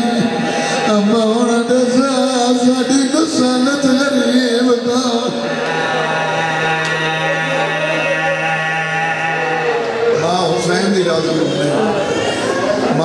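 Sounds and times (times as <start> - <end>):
man chanting into microphone: 0.0 - 11.8.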